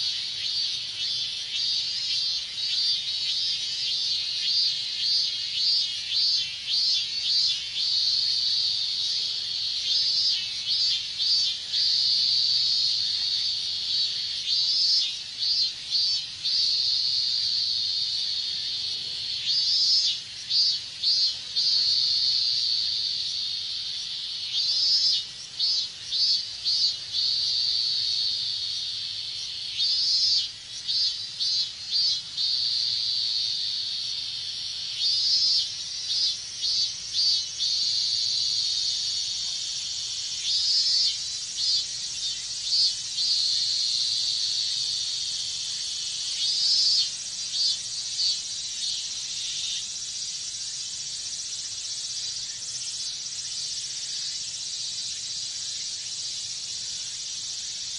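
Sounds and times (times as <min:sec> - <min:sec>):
cicadas buzzing: 0:00.0 - 0:57.9.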